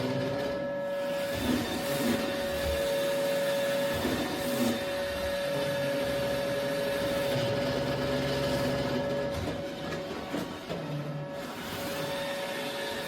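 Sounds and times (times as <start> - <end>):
robot vacuum running: 0.0 - 13.0.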